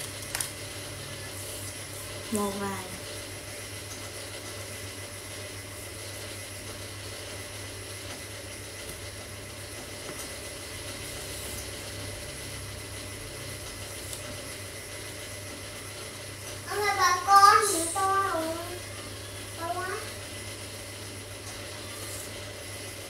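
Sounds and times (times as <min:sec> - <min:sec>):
low hum with hiss: 0:00.0 - 0:23.0.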